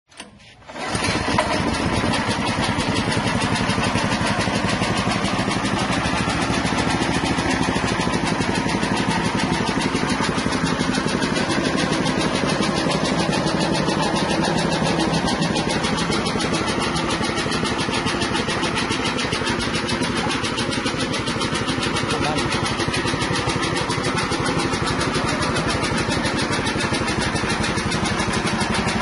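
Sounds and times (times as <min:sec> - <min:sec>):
small petrol engine running: 0:00.1 - 0:29.0.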